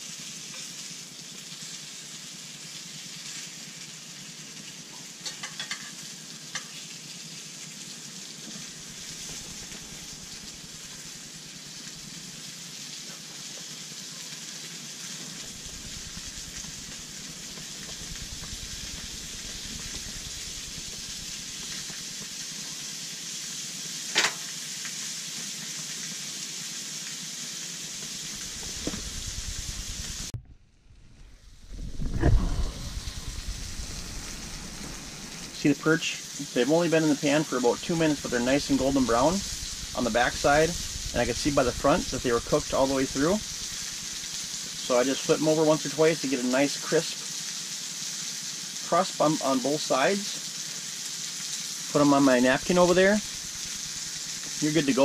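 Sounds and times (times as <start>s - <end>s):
fish sizzling in pan: 0.0s - 30.4s, 31.2s - 55.0s.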